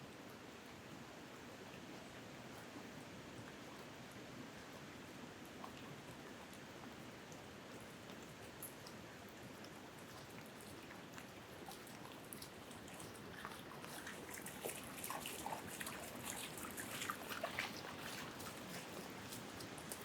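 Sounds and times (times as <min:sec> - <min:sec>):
patter of small ticks and crackles: 0:01.5 - 0:20.0.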